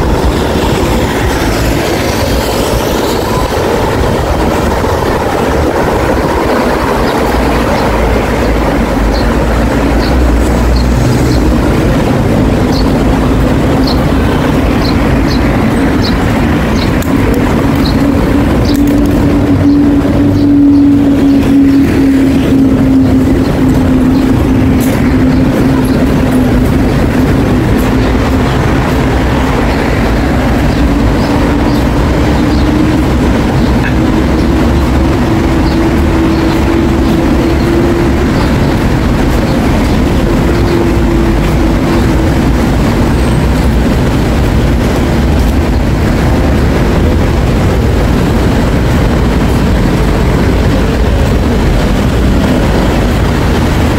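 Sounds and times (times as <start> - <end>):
busy road traffic: 0.0 - 53.9
steady hum drifting in pitch: 0.0 - 53.9.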